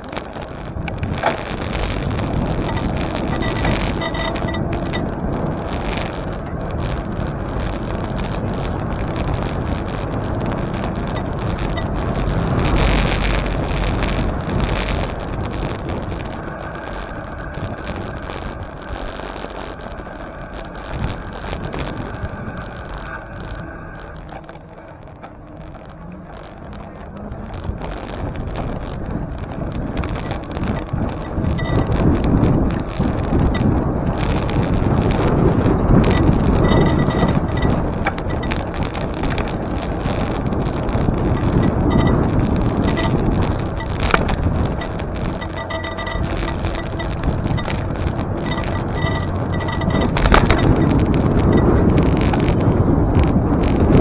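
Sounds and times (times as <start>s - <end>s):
bicycle road noise: 0.0s - 54.0s
wind over microphone: 0.0s - 54.0s.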